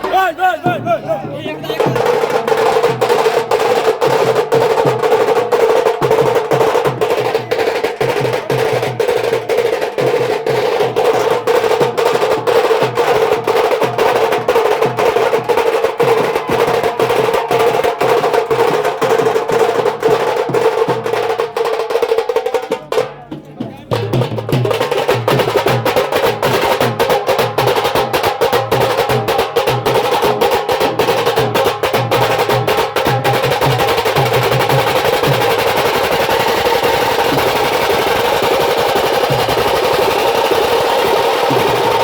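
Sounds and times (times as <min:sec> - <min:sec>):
drums and percussion playing: 0:00.0 - 0:42.0.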